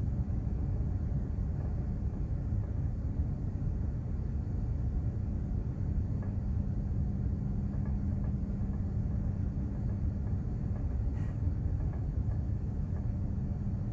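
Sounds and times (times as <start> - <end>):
constant hum: 0.0 - 13.9
ship engine low rumble: 0.0 - 13.9.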